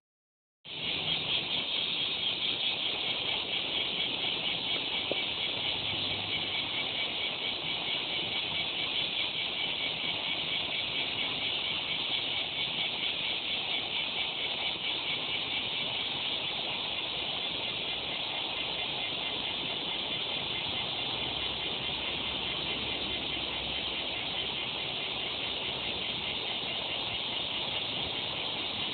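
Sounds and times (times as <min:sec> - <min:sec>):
cicadas buzzing: 0:00.7 - 0:28.9.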